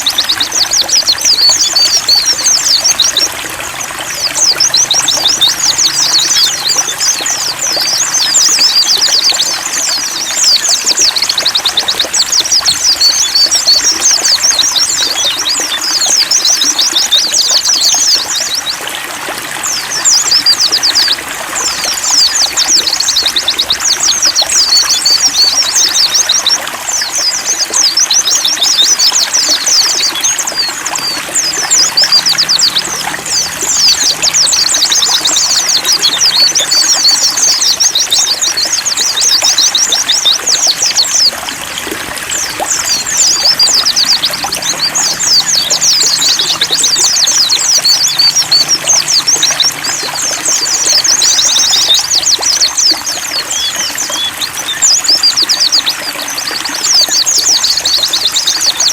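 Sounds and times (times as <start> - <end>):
birds twittering: 0.0 - 58.9
trickle of running water: 0.0 - 58.9.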